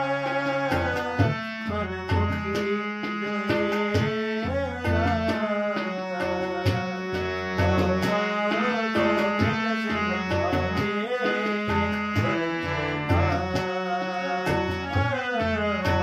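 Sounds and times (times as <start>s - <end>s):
harmonium melody over drone: 0.0s - 16.0s
person singing: 0.0s - 16.0s
tabla drum beat: 0.0s - 16.0s.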